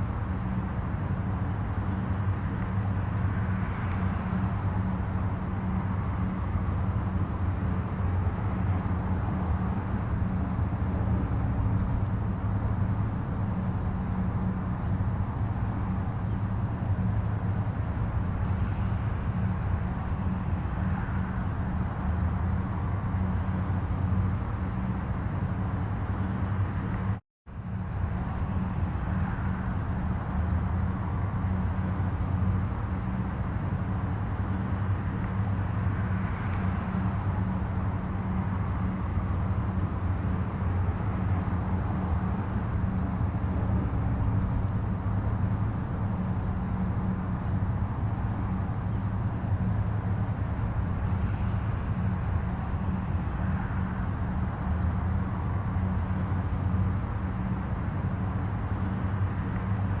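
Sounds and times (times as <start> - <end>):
distant highway traffic: 0.0 - 60.0.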